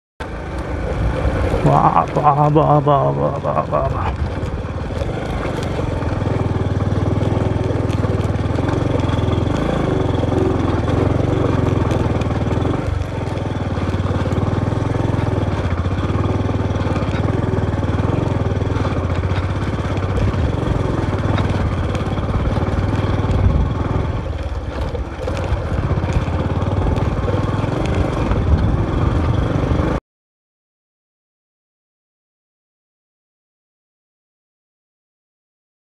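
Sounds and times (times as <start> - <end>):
motorcycle engine running: 0.2 - 30.0.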